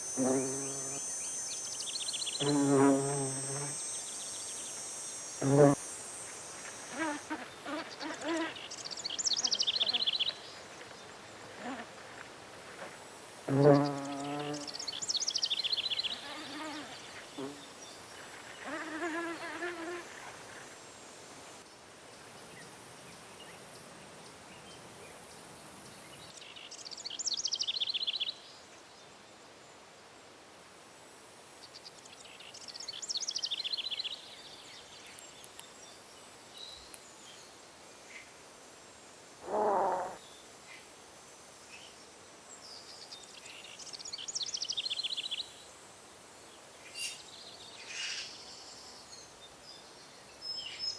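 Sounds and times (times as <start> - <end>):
faint steady high hiss: 0.0 - 50.9.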